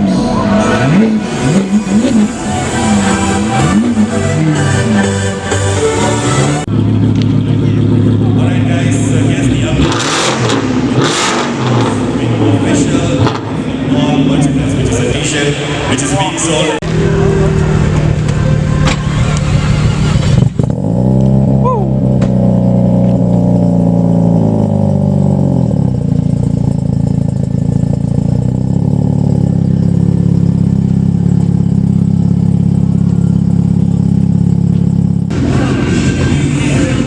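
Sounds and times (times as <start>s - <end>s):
car engine and exhaust: 0.0s - 37.0s.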